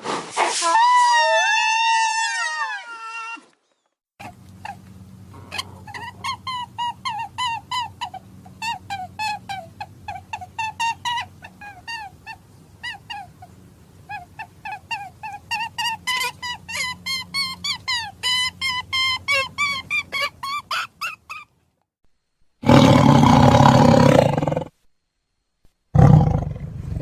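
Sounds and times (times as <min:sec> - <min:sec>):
low steady hum: 0:04.2 - 0:27.0.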